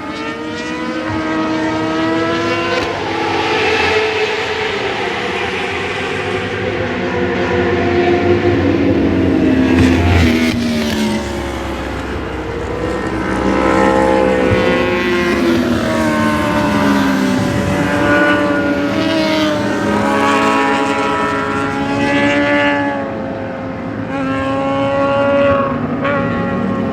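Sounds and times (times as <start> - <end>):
racing motorcycles passing: 0.0 - 26.9.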